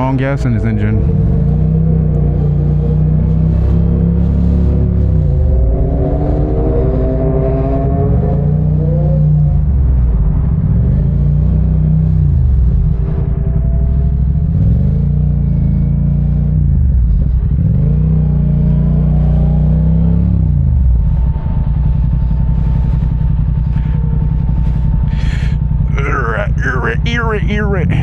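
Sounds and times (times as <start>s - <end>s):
motorcycle engine revving: 0.8s - 28.0s.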